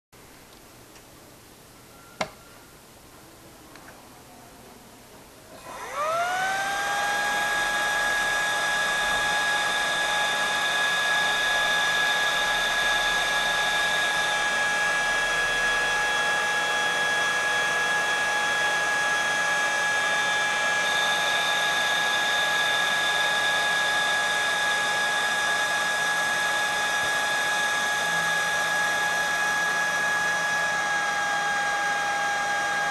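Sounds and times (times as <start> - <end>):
electric motor whining: 5.6 - 32.9.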